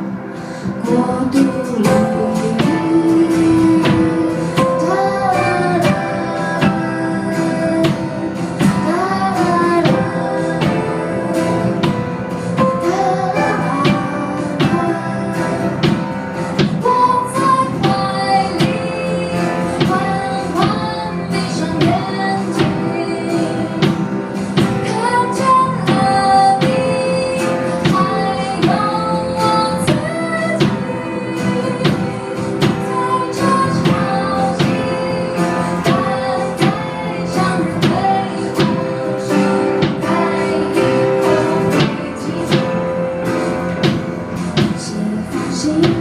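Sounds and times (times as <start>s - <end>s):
acoustic guitar picking: 0.0s - 46.0s
woman singing: 0.0s - 46.0s.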